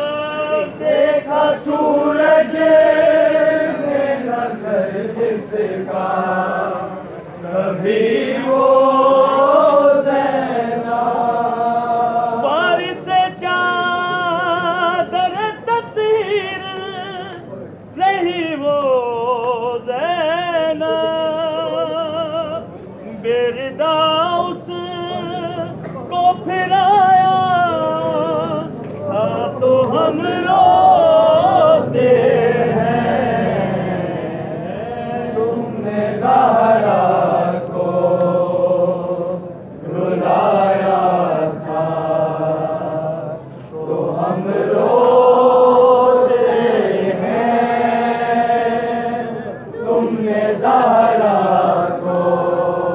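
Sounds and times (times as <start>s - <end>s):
men singing together: 0.0s - 6.9s, 7.5s - 17.0s, 23.7s - 52.9s
man reciting with vibrato: 0.0s - 52.9s.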